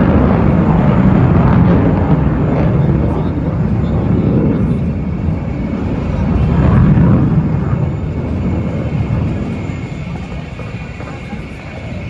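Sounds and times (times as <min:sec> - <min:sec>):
fighter jet engine rumble: 0:00.0 - 0:12.0.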